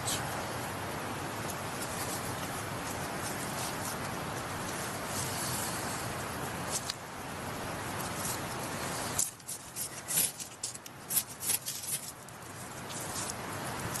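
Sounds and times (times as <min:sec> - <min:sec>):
stream water rushing: 0:00.0 - 0:14.0
wood fire crackling: 0:00.0 - 0:14.0.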